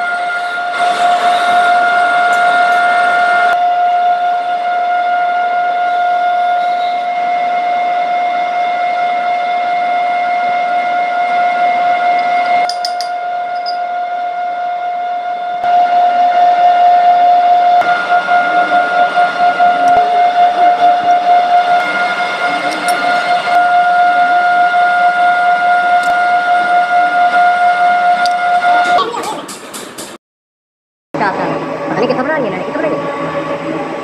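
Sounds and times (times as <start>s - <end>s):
machine high-pitched whine: 0.0s - 30.2s, 31.2s - 34.0s.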